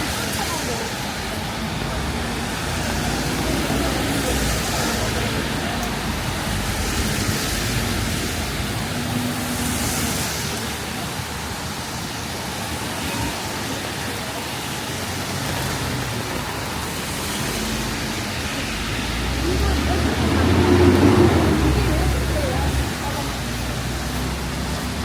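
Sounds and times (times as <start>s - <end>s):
rain hiss: 0.0s - 25.0s
traffic on wet road: 0.0s - 25.0s.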